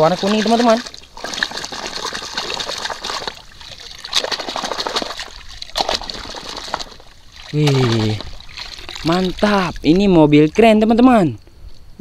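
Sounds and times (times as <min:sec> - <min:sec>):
water splashing and sloshing: 0:00.0 - 0:11.1.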